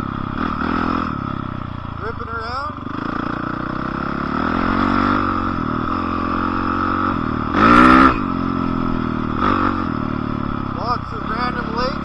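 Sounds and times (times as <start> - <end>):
dirt bike engine running: 0.0 - 12.0
dirt bike throttle rev: 0.0 - 12.0.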